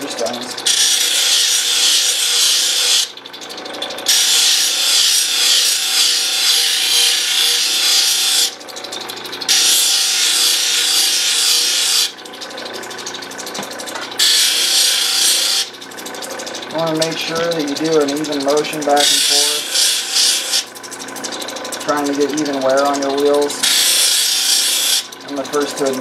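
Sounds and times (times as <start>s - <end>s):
stone grinding on wheel: 0.0s - 20.7s, 21.3s - 26.0s
machine motor humming: 0.0s - 26.0s.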